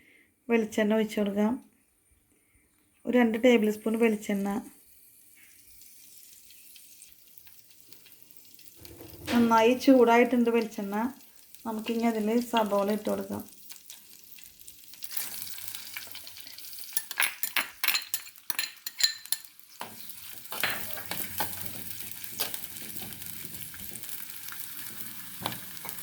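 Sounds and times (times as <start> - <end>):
onion sizzling in oil: 3.2 - 17.5, 18.3 - 26.0.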